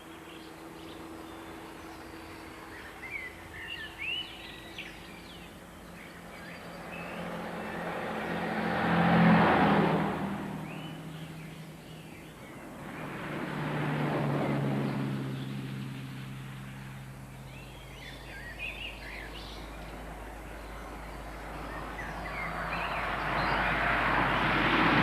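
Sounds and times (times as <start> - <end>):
birds chirping: 0.0 - 24.8
car driving past: 0.0 - 25.0
vehicle approaching: 0.0 - 25.0.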